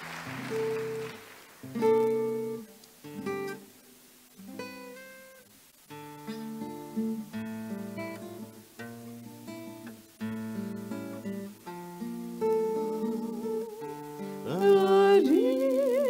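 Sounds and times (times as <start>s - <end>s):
acoustic guitar strummed chords: 0.0s - 16.0s.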